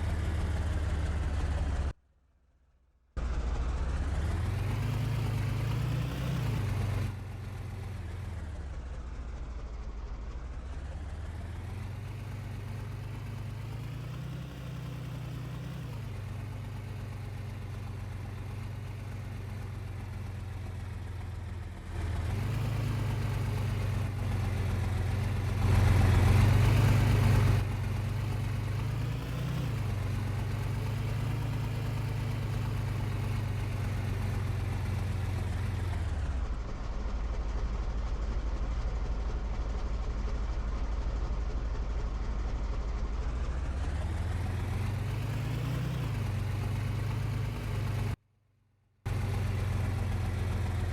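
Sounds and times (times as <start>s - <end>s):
road noise: 0.0s - 2.0s, 3.2s - 48.2s, 49.1s - 50.9s
vehicle engine running: 0.0s - 2.0s, 3.2s - 48.2s, 49.1s - 50.9s.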